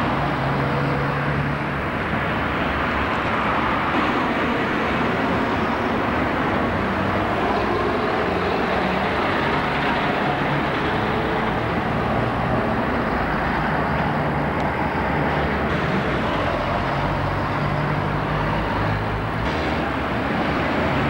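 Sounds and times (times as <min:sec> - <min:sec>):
diesel bus running: 0:00.0 - 0:21.0
street traffic noise: 0:00.0 - 0:21.0.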